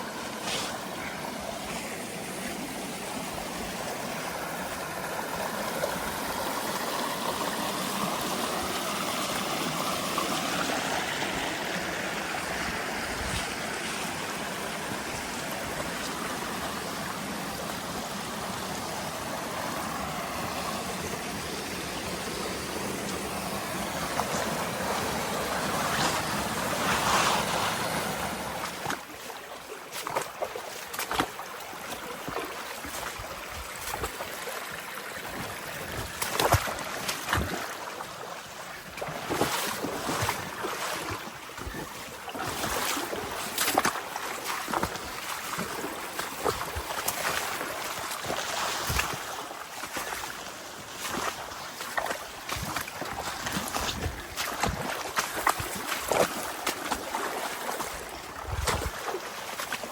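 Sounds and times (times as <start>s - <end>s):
creek water running: 0.0s - 59.9s.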